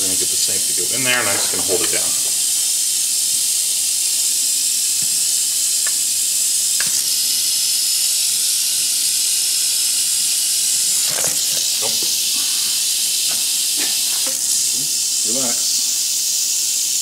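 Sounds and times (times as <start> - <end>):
rattlesnake rattling: 0.0 - 17.0.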